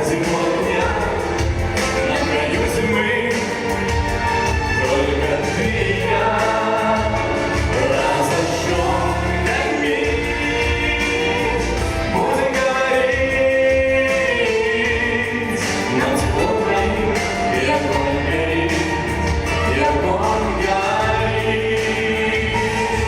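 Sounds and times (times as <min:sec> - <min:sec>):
instrumental accompaniment: 0:00.0 - 0:23.0
man and woman singing duet: 0:00.0 - 0:23.0.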